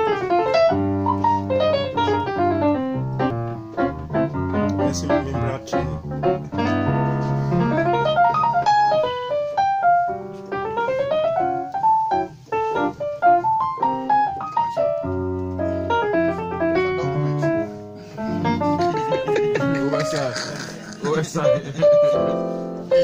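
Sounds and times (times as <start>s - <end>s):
jazzy piano chords: 0.0s - 23.0s.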